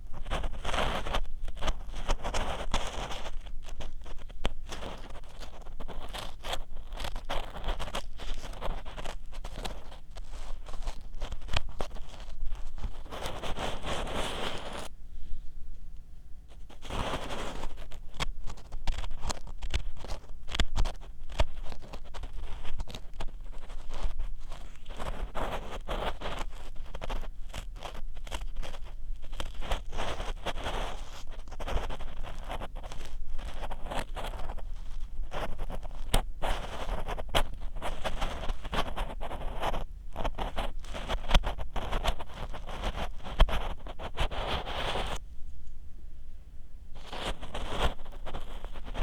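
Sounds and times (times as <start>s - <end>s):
ear pick scraping inside ear: 0.0s - 15.5s, 16.5s - 45.8s, 46.9s - 49.0s
rustling: 0.0s - 49.0s.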